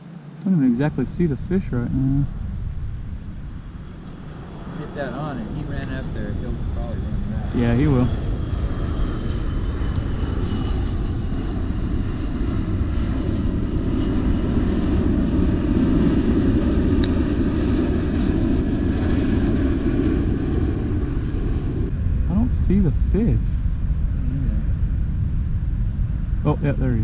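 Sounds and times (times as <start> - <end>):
distant engine rumble: 0.0 - 27.0.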